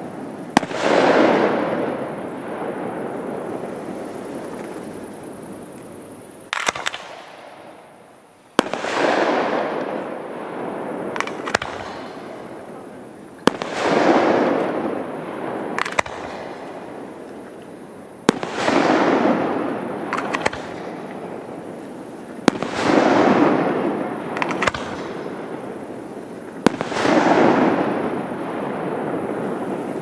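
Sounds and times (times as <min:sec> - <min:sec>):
small fireworks pops: 0:00.0 - 0:10.2, 0:11.1 - 0:30.0
fireworks bangs: 0:00.0 - 0:30.0
fireworks rushing noise: 0:00.0 - 0:30.0.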